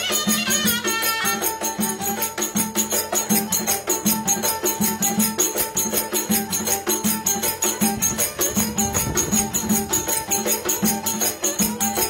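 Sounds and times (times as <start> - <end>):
bass drum beating a rhythm: 0.0 - 12.0
reed pipe and fiddle melody: 0.0 - 12.0.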